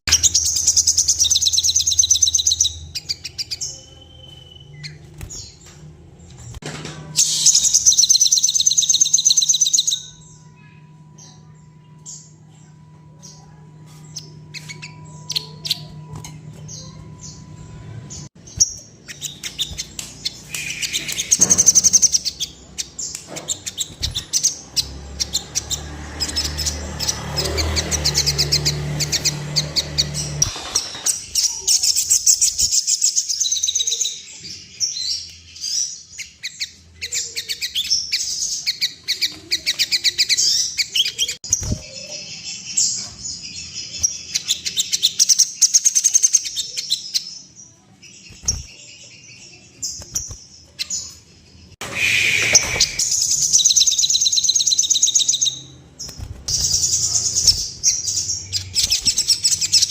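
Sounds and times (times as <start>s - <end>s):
bird singing chattering trills: 0.0s - 5.7s, 7.2s - 59.9s.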